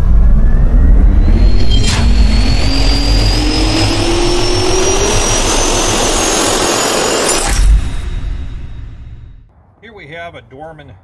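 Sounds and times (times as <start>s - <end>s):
steady rushing noise: 0.0s - 9.2s
jet turbine rising whine: 0.0s - 9.5s.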